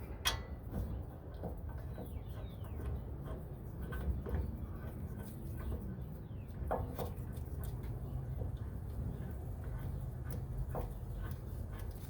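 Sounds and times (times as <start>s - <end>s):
birds chirping: 0.0s - 11.8s
low background rumble: 0.0s - 12.0s.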